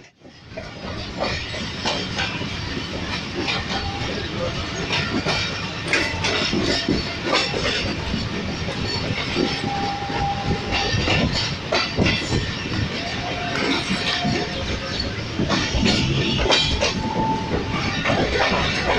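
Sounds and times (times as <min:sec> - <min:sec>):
train wheels clattering on rails: 0:00.0 - 0:18.9.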